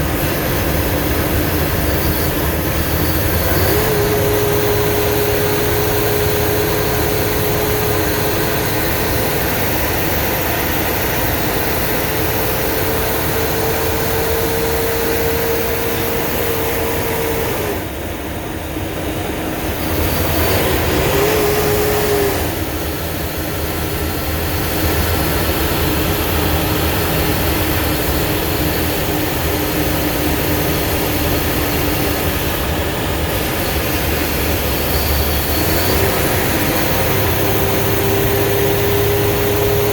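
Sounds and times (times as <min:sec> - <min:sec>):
bus engine and road noise: 0:00.0 - 0:39.9
whine: 0:00.0 - 0:39.9.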